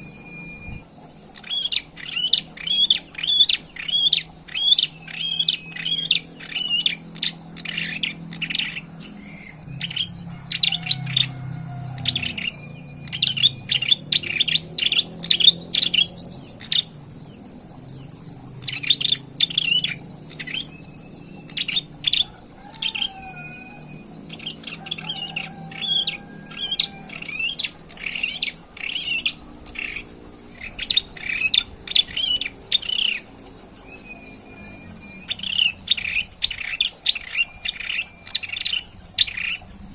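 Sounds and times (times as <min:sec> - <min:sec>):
low hum: 0:00.0 - 0:39.9
young bird chirping: 0:00.0 - 0:39.9.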